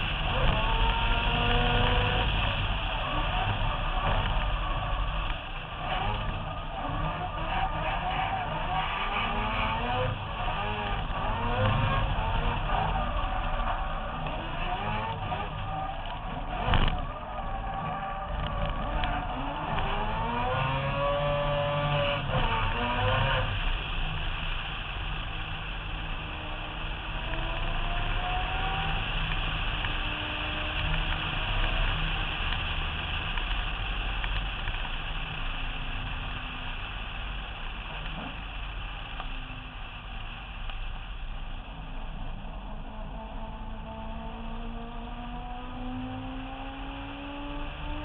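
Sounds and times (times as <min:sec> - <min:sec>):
race car engine revving: 0:00.0 - 0:48.0.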